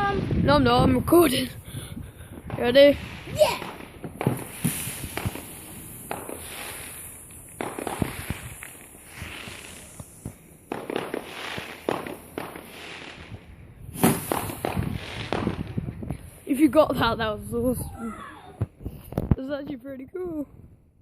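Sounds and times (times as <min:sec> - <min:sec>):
fireworks bangs and crackles: 0:00.0 - 0:20.6.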